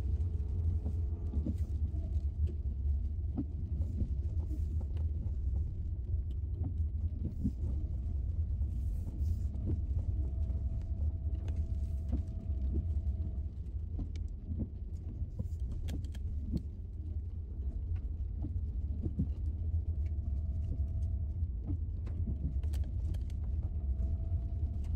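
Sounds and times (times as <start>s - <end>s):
car engine and tyres rumbling: 0.0s - 24.9s
faint whine: 0.0s - 24.9s.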